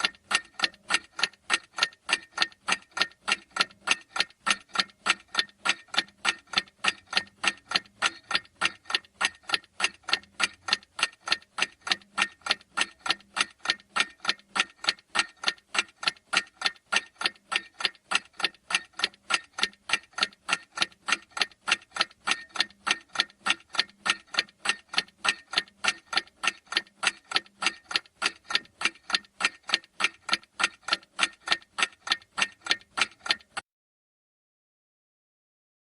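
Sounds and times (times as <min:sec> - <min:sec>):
clock ticking: 0:00.0 - 0:33.6.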